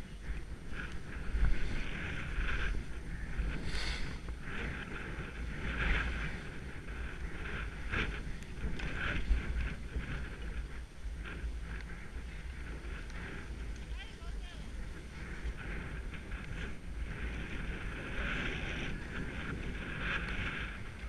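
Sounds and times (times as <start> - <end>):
skis scraping on snow: 0.0 - 21.0
wind rumbling on microphone: 0.0 - 21.0.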